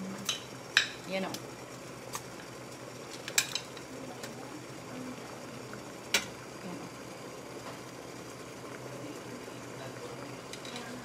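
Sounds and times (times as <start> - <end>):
steaming pot hissing: 0.0 - 11.0.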